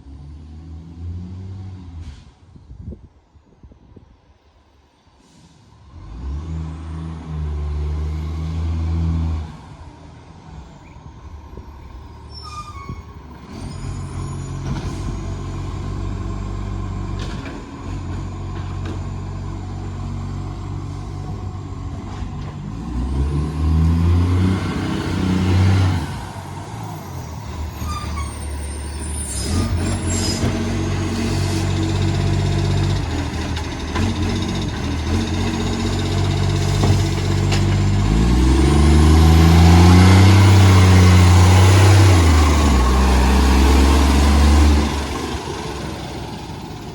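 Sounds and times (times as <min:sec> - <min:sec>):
diesel engine revving: 0:05.8 - 0:09.9, 0:11.2 - 0:46.9.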